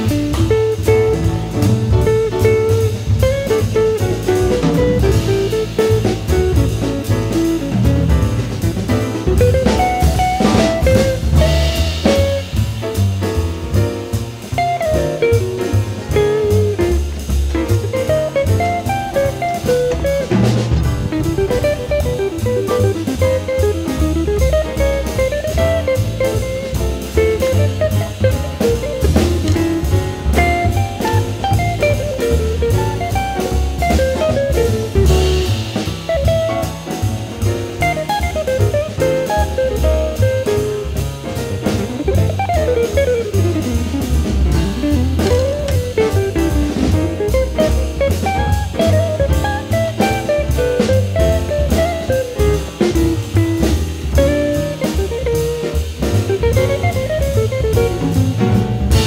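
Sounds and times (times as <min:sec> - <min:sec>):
instrumental background music: 0:00.0 - 0:59.0
steady drum beat: 0:00.0 - 0:59.0.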